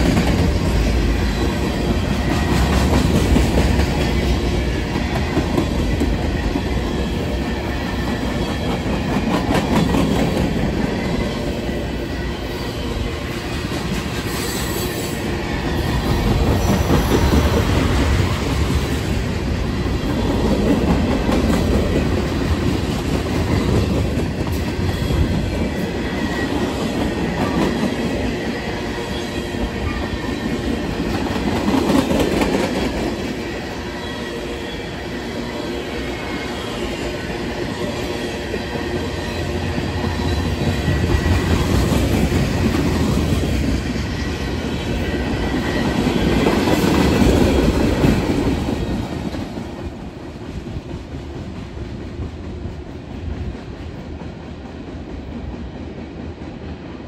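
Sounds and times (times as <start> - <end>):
freight train cars rolling: 0.0 - 57.0.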